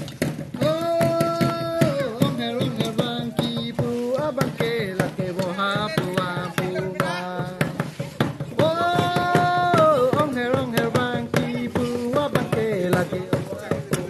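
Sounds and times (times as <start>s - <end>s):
fast hand-drum beats: 0.0s - 14.0s
person singing melody: 0.6s - 13.8s.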